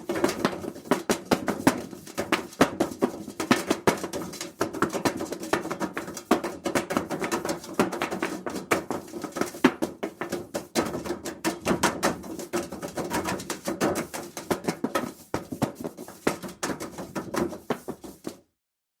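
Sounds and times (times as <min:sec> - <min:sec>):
knocks and bangs on sheet metal duct: 0:00.0 - 0:18.4.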